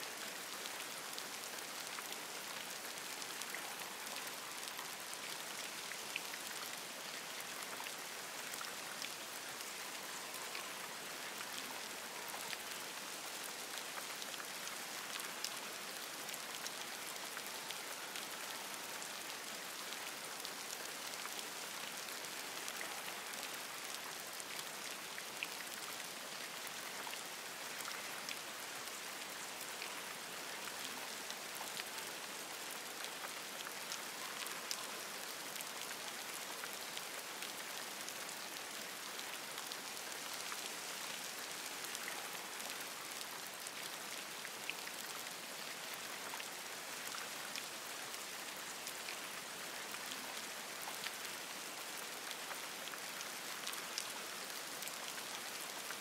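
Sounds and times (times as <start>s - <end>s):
rain on leaves: 0.0s - 56.0s.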